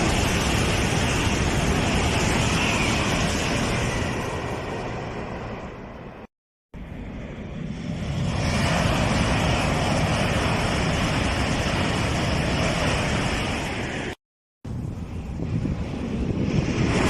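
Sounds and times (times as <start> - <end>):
high-speed train rushing roar: 0.0 - 17.0.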